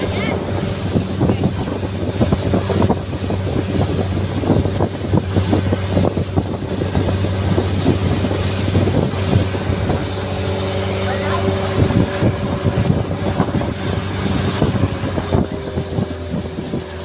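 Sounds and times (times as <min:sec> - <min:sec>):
boat engine droning: 0:00.0 - 0:17.0
wind buffeting microphone: 0:00.0 - 0:17.0.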